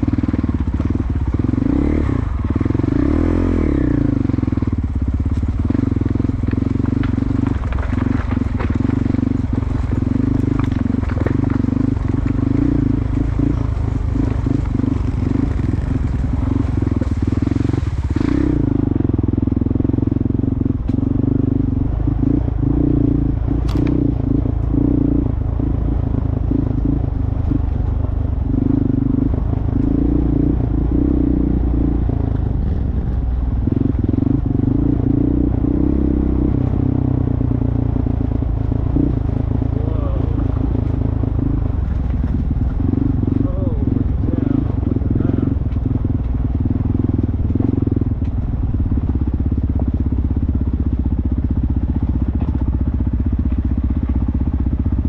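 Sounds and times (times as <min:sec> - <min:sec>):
motorcycle engine droning: 0:00.0 - 0:55.0.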